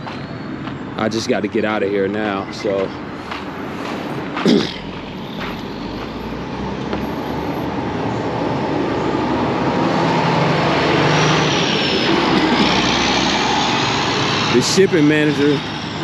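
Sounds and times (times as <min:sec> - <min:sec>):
diesel truck engine: 0:00.0 - 0:16.0
road noise: 0:00.0 - 0:16.0.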